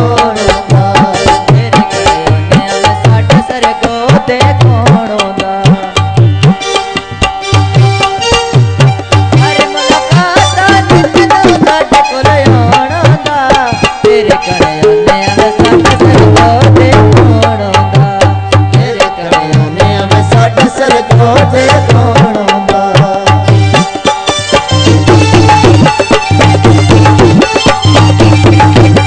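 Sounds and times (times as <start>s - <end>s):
bending melody line: 0.0s - 29.0s
hand drums fast beat: 0.0s - 29.0s.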